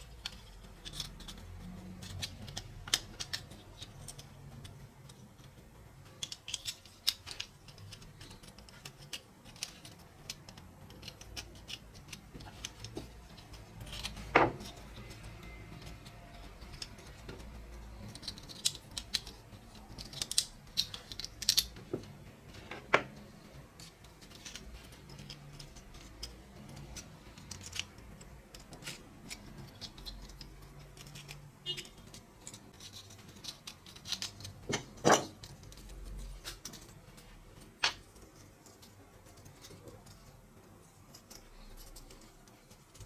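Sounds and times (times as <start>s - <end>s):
hand tools tapping metal parts: 0.0s - 43.0s.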